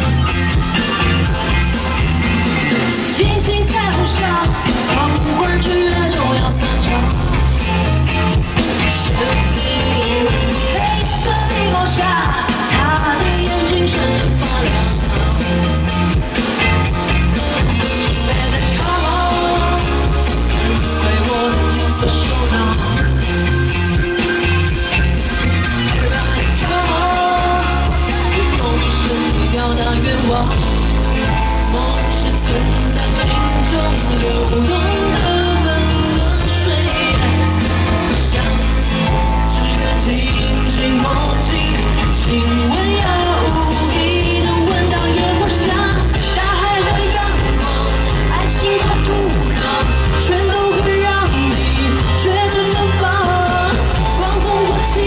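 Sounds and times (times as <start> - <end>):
heavy bass line: 0.0 - 55.0
live pop-rock band: 0.0 - 55.0
woman singing into a microphone: 3.1 - 7.5, 8.8 - 16.2, 17.8 - 23.3, 25.9 - 30.8, 31.4 - 38.5, 39.5 - 55.0.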